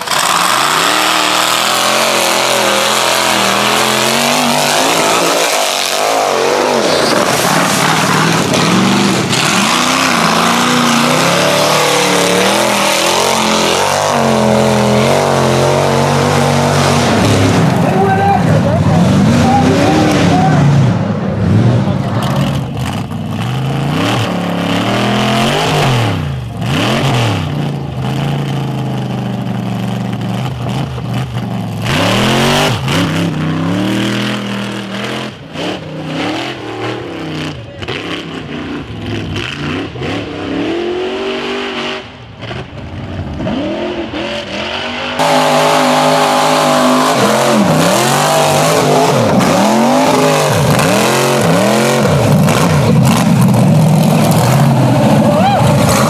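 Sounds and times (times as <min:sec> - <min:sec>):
buggy engine revving hard: 0:00.0 - 0:56.0.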